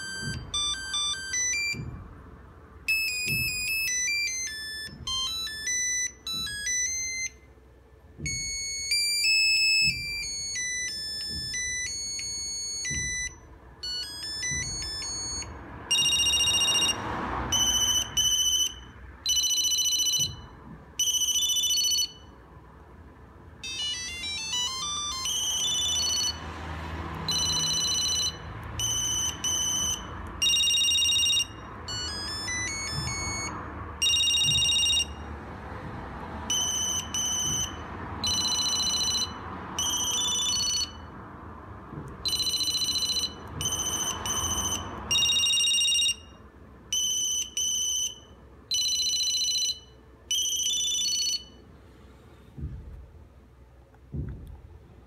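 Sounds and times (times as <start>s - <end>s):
electronic phone ringtones: 0.0s - 2.1s, 2.9s - 7.5s, 8.2s - 22.4s, 23.6s - 26.6s, 27.2s - 35.4s, 36.5s - 41.1s, 42.2s - 51.6s.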